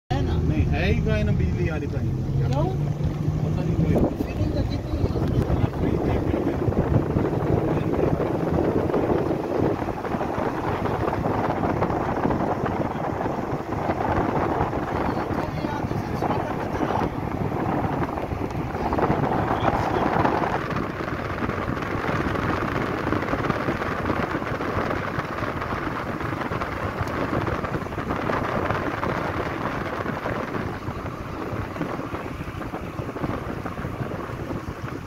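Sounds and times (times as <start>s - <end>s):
car wind and road noise: 0.1s - 35.0s.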